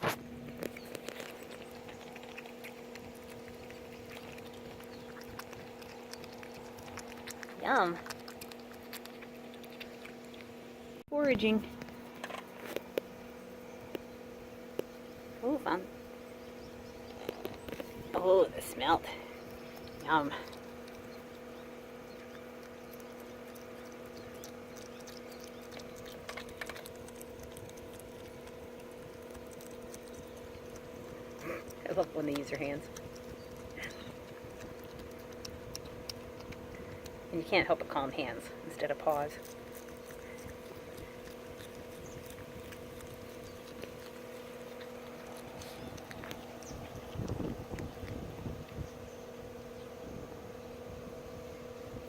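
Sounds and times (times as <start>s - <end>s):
opossum clicks and rustles: 0.0s - 51.1s
steady hum: 0.0s - 52.0s.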